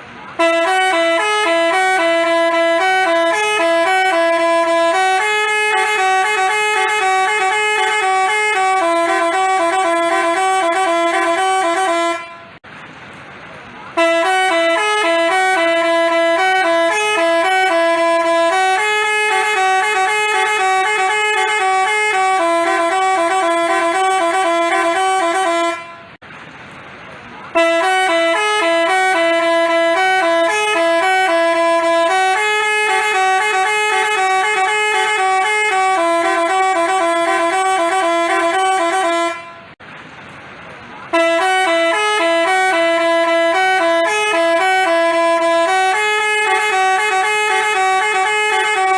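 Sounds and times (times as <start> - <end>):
multi-tone bus horn playing a tune: 0.0 - 12.6, 13.9 - 26.2, 27.5 - 39.8, 41.1 - 48.9.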